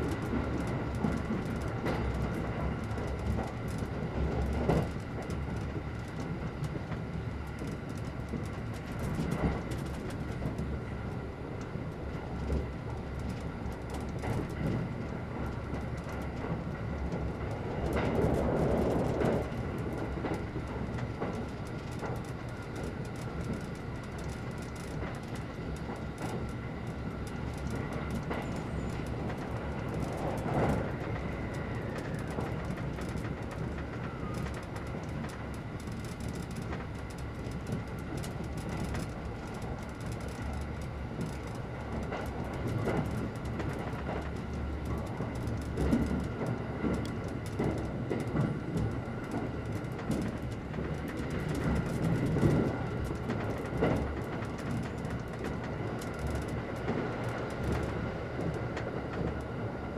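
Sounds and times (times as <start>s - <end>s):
train cabin rumble: 0.0s - 59.9s
wheels clicking over rail joints: 0.0s - 59.9s.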